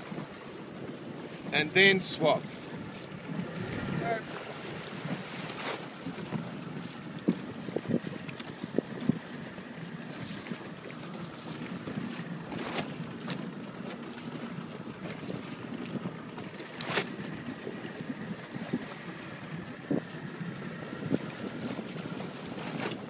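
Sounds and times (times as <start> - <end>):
water splashing around boat: 0.0 - 23.0
wind buffeting microphone: 0.0 - 23.0.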